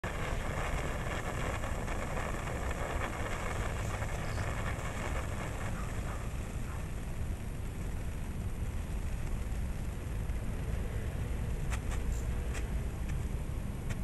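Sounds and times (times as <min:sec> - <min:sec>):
sparkler crackling: 0:00.0 - 0:14.0
steady low rumble: 0:00.0 - 0:14.0.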